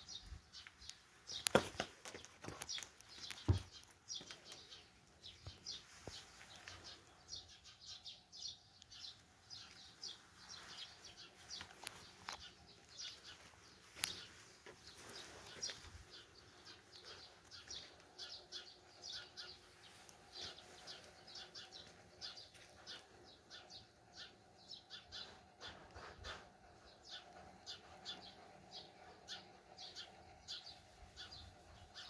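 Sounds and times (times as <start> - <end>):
sparrows chirping: 0.0 - 32.0.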